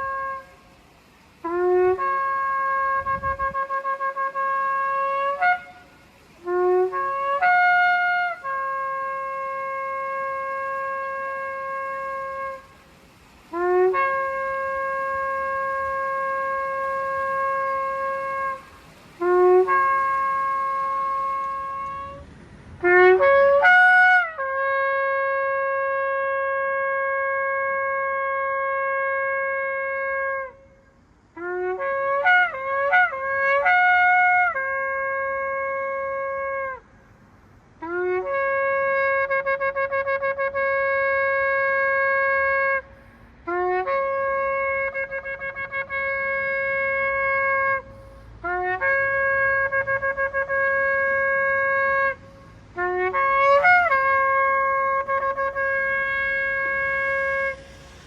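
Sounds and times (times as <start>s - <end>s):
ram's horn blasts: 0.0s - 0.8s, 1.4s - 12.8s, 13.4s - 30.7s, 37.8s - 58.0s.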